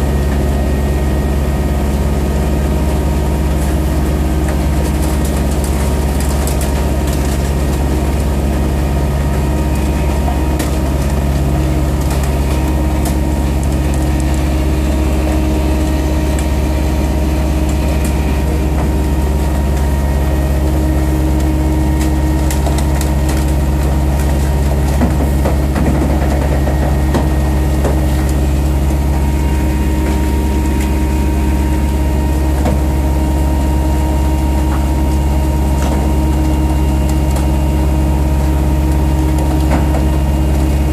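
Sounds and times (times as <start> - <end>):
deep engine hum: 0.0 - 40.9.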